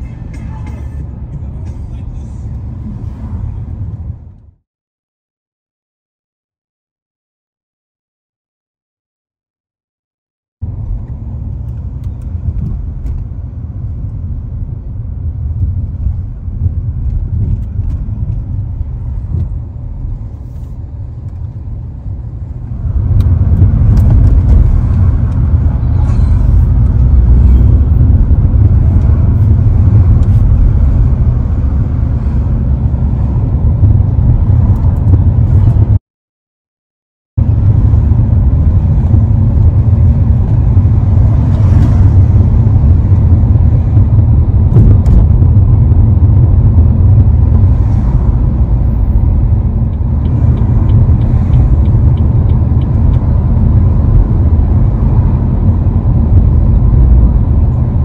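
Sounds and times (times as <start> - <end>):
car engine and tyre rumble: 0.0 - 4.6, 10.6 - 36.0, 37.4 - 58.0.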